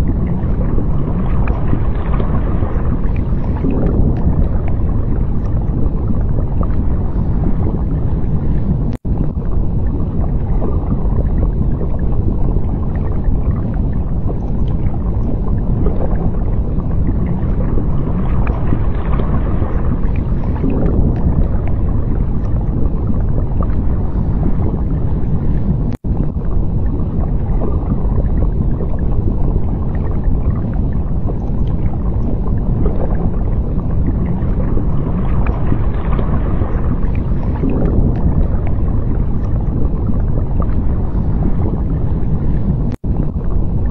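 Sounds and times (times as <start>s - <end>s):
underwater water rumble: 0.0s - 43.9s.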